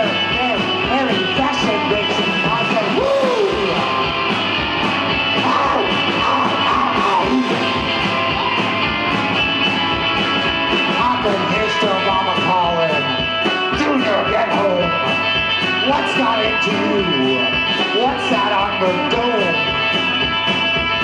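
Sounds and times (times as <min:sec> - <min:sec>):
bass guitar: 0:00.0 - 0:21.0
electric guitar notes bending: 0:00.0 - 0:21.0
steady drum beat: 0:00.0 - 0:21.0.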